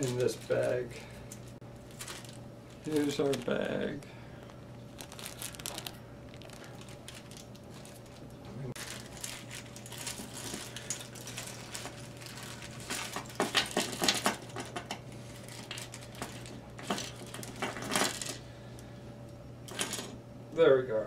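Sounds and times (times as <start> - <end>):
plastic bag rustling: 0.0 - 18.4.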